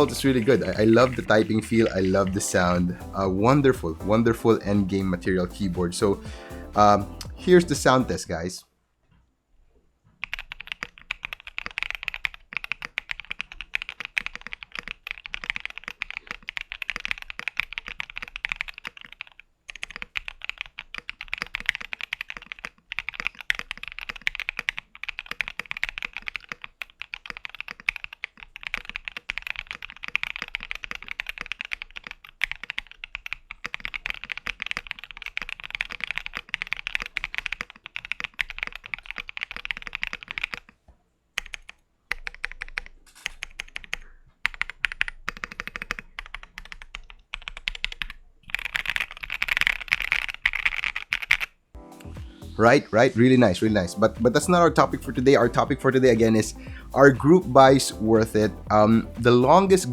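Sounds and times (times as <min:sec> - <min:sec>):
fast mechanical keyboard typing: 0:00.0 - 0:08.1, 0:10.2 - 0:40.8, 0:41.4 - 0:52.1, 0:53.8 - 0:59.9.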